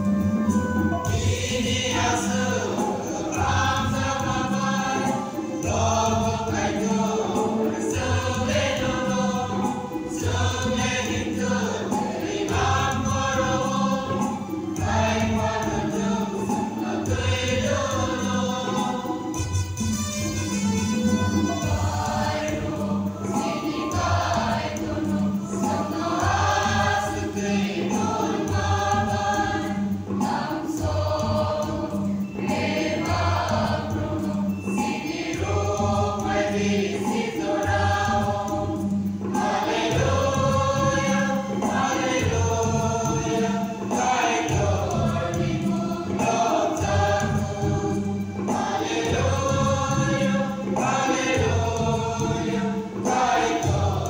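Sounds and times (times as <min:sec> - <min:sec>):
low instrumental backing: 0:00.0 - 0:54.0
mixed choir singing: 0:00.0 - 0:54.0.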